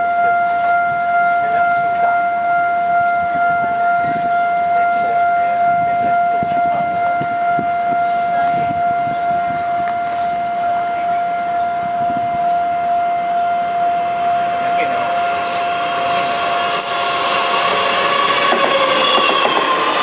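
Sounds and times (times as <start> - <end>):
level crossing alarm tone: 0.0 - 20.0.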